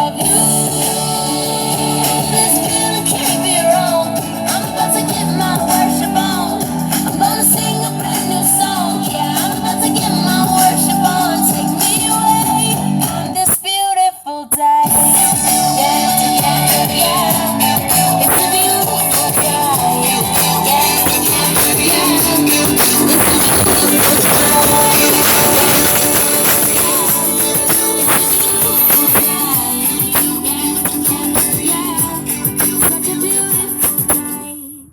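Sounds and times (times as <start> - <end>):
distorted loud pop music: 0.0 - 34.9.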